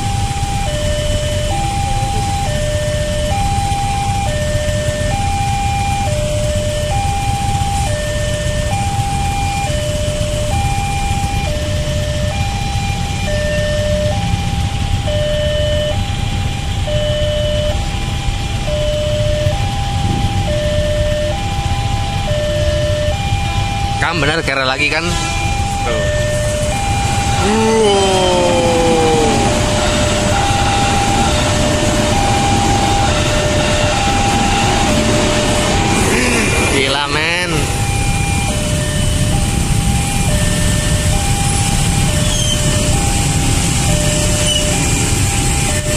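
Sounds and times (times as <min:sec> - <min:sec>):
idling engines rumbling: 0:00.0 - 0:45.9
level-crossing two-tone alarm: 0:00.0 - 0:45.9.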